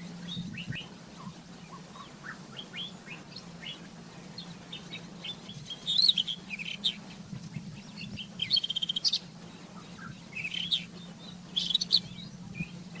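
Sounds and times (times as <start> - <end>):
bird singing: 0.0 - 13.0
faint low hum: 0.0 - 13.0.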